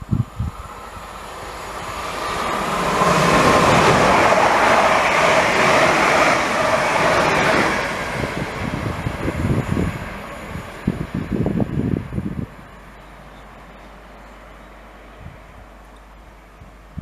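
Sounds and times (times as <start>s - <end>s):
train passing with rail noise: 0.0s - 17.0s.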